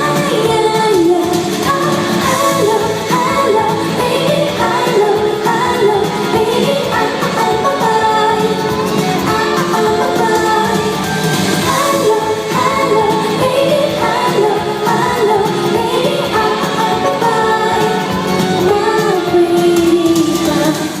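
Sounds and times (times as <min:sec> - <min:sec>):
band accompaniment: 0:00.0 - 0:21.0
woman singing pop song: 0:00.0 - 0:21.0.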